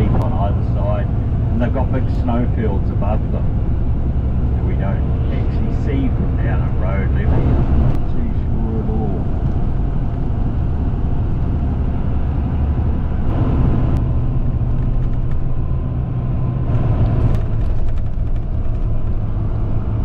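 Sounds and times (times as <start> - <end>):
bus engine and tyre drone: 0.0 - 20.0.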